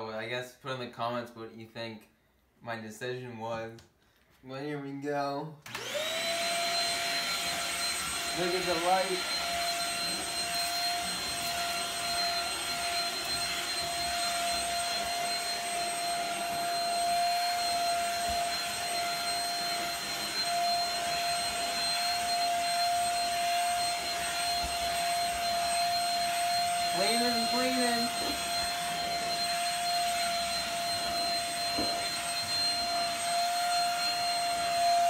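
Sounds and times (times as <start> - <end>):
handheld vacuum cleaner whining: 5.6 - 35.0.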